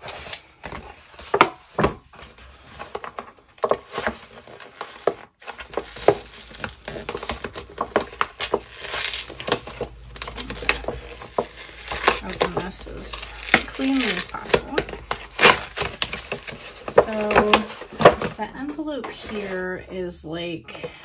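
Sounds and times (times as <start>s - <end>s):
envelope scraping and tapping desk: 0.0s - 19.6s.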